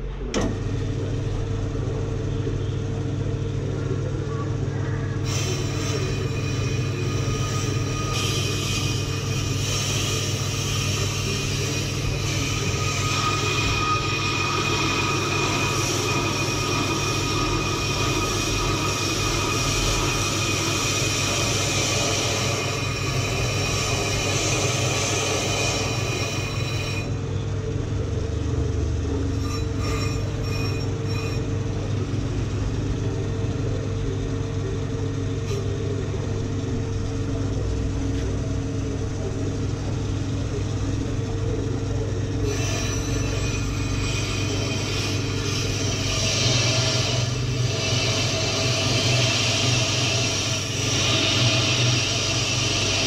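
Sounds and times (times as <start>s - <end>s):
lathe motor hum: 0.0s - 53.0s.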